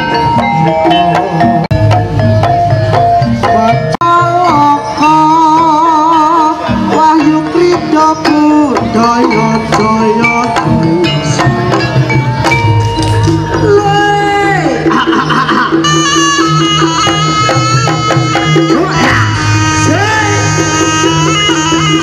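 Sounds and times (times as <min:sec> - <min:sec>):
hand drums striking: 0:00.0 - 0:22.0
sustained melodic instruments: 0:00.0 - 0:22.0.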